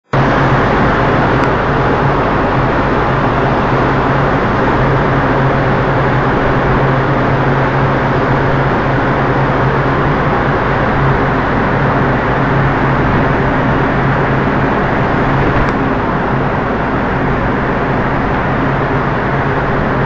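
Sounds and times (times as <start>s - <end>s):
sea rushing: 0.0s - 20.0s
ship engines humming: 0.0s - 20.0s
wind: 0.0s - 20.0s.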